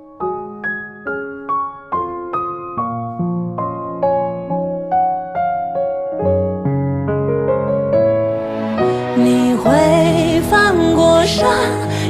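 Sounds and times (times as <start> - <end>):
gentle piano notes ringing: 0.0 - 12.0.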